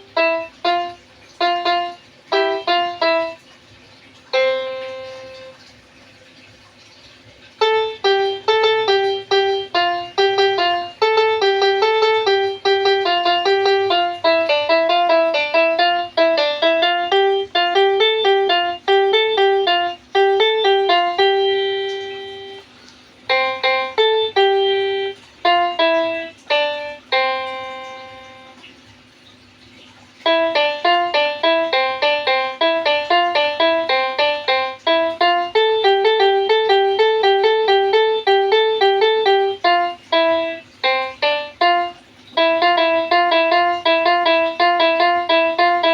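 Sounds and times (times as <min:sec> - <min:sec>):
toy keyboard melody: 0:00.0 - 0:03.4, 0:04.3 - 0:05.6, 0:07.6 - 0:22.7, 0:23.3 - 0:28.7, 0:30.2 - 0:45.9.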